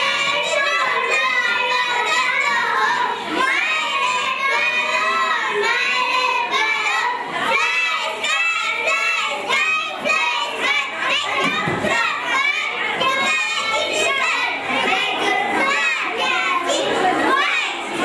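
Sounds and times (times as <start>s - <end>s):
boys singing into microphones: 0.0s - 18.0s.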